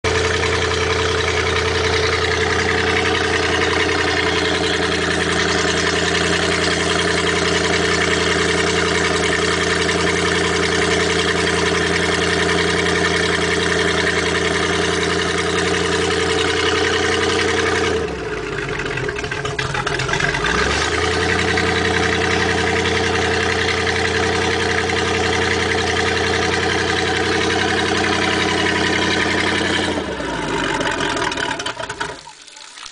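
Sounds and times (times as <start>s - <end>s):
boat engine running: 0.0s - 32.3s.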